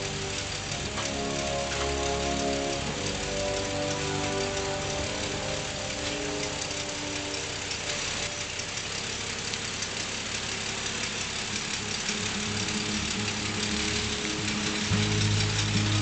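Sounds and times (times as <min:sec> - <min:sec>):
car engine idling: 0:00.0 - 0:16.0
steady hiss: 0:00.0 - 0:16.0.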